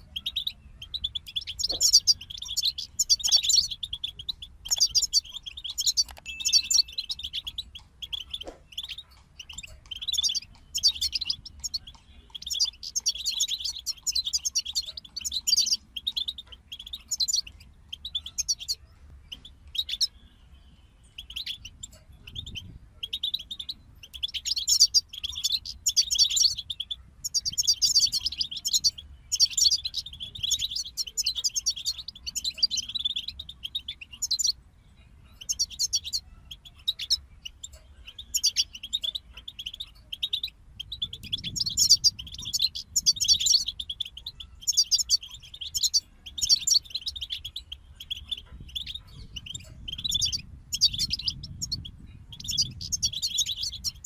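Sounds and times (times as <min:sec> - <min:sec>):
finches twittering: 0:00.0 - 0:54.0.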